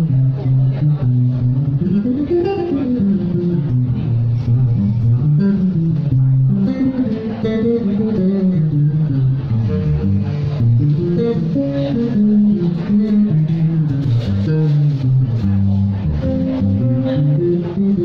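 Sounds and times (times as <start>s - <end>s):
bass guitar notes: 0.0s - 18.0s
plucked guitar notes: 0.0s - 18.0s.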